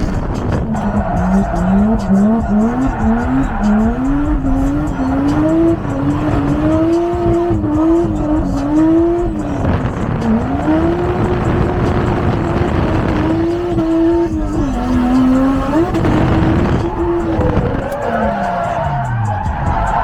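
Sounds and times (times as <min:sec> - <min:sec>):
car engine revving hard: 0:00.0 - 0:20.0
tyres squealing: 0:00.0 - 0:20.0.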